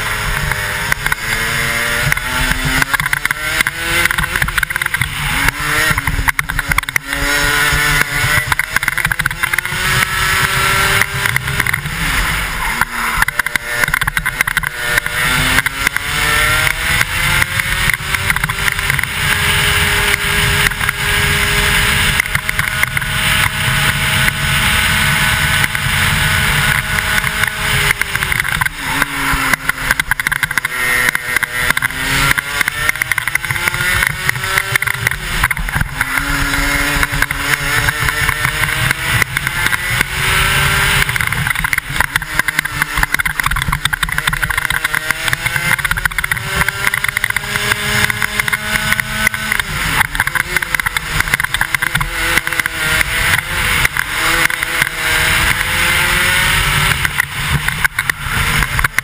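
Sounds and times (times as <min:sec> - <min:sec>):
two-stroke kart engine revving: 0:00.0 - 0:59.0.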